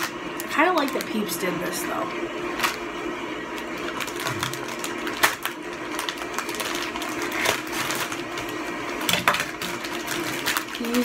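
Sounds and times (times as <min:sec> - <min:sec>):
plastic wrapper crinkling: 0:00.0 - 0:01.4, 0:02.5 - 0:02.8, 0:03.5 - 0:11.0.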